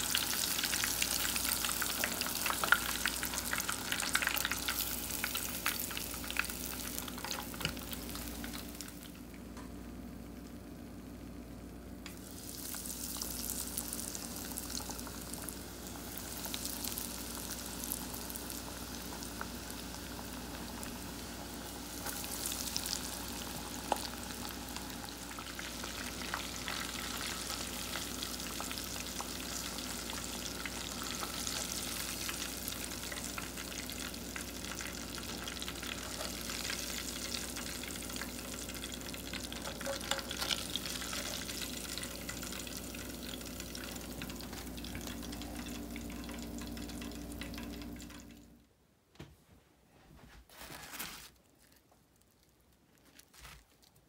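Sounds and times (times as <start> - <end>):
fish deep-frying in fat: 0.0 - 9.5, 10.2 - 48.6.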